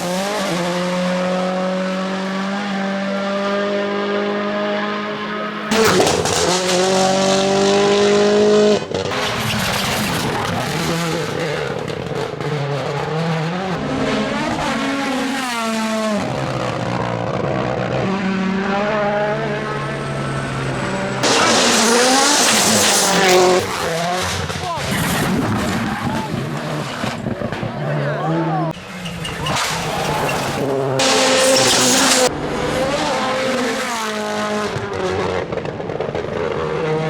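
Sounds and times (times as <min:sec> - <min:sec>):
rally cars at full throttle: 0:00.0 - 0:37.0.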